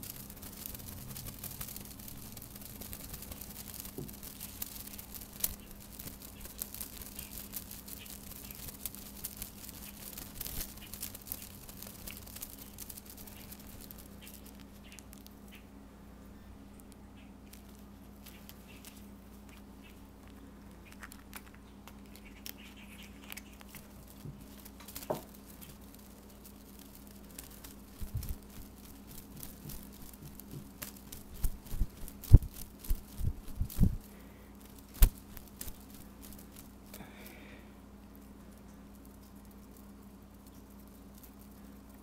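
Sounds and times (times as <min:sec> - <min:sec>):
paws rustling feather toy: 0:00.0 - 0:15.6, 0:17.4 - 0:37.0, 0:38.1 - 0:42.0
low hum: 0:00.0 - 0:42.0.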